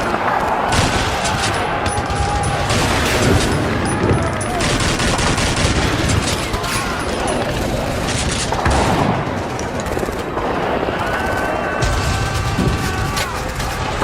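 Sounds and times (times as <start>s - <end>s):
people shouting: 0.0s - 8.1s, 10.6s - 14.0s
rifle and machine gun fire: 0.0s - 14.0s.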